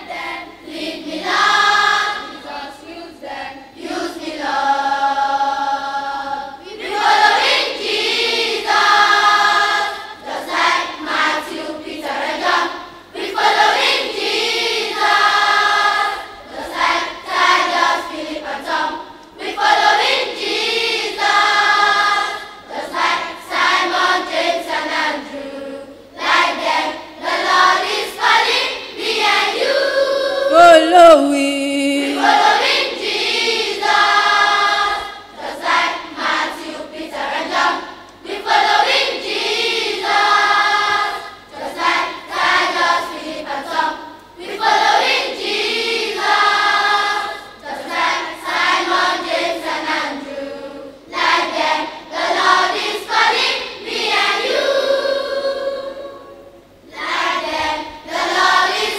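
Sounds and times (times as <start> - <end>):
children's choir singing gospel: 0.0 - 58.9.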